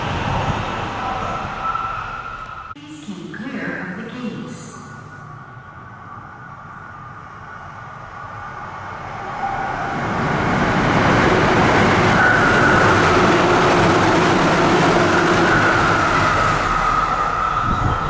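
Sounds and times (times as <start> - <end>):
train wheels rushing on rail: 0.0 - 2.8, 5.2 - 18.0
steady high whine: 0.0 - 18.0.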